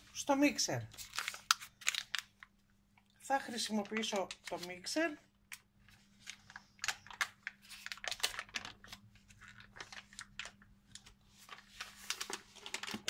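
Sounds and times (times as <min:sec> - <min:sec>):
crinkling and rustling: 0:00.9 - 0:13.0.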